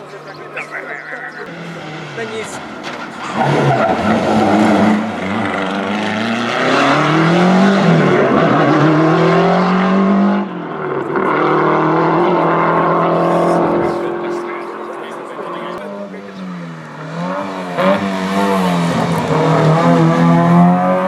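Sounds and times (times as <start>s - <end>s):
rally car engine accelerating: 1.4s - 21.0s.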